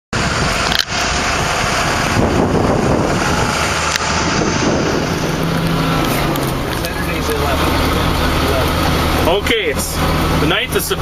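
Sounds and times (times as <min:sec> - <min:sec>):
combine harvester running: 0:00.1 - 0:11.0.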